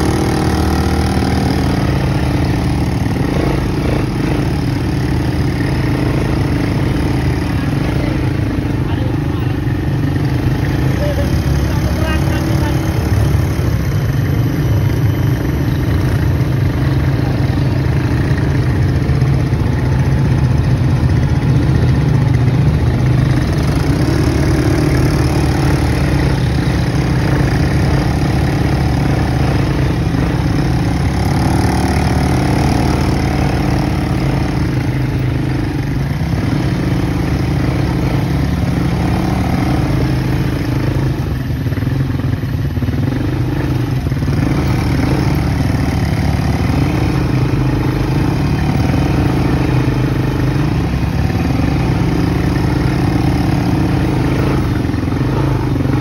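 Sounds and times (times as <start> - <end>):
quad bike engines running: 0.0 - 56.0.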